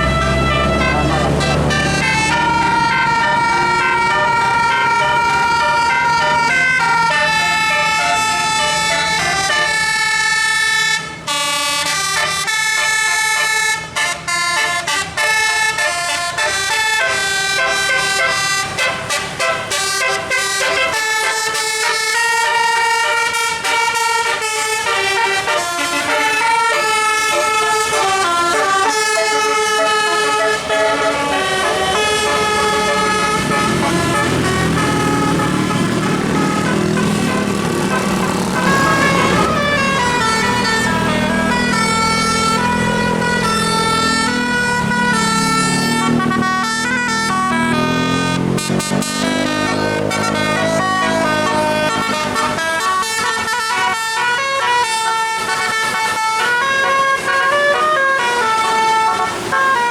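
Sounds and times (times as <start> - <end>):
bus musical air horn tune: 0.0 - 59.9.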